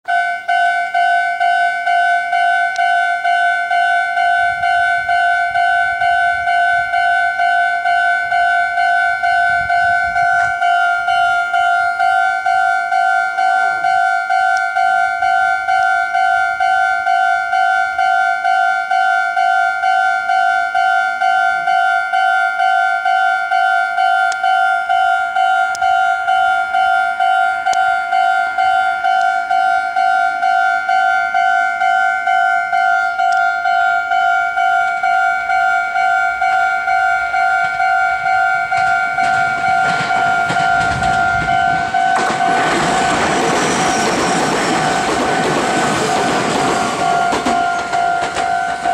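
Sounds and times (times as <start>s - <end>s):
level-crossing alarm dings: 0.1s - 48.9s.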